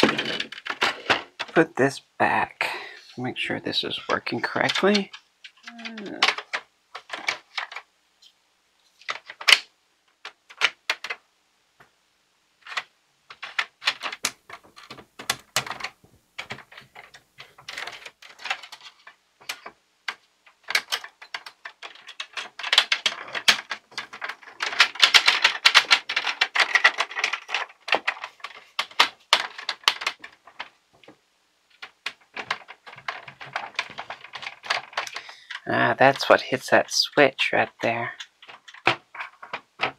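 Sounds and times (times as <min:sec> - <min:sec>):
plastic toy parts clicking: 0:00.0 - 0:01.6, 0:04.1 - 0:07.9, 0:09.0 - 0:11.2, 0:12.6 - 0:39.9.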